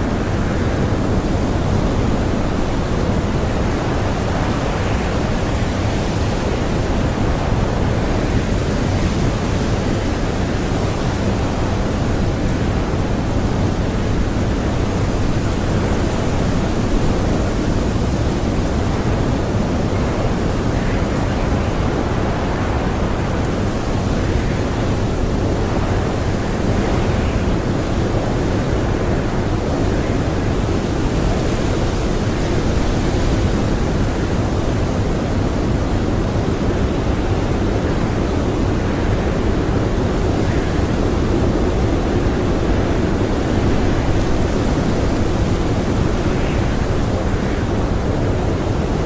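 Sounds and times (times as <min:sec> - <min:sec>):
blizzard wind blowing hard: 0:00.0 - 0:49.0.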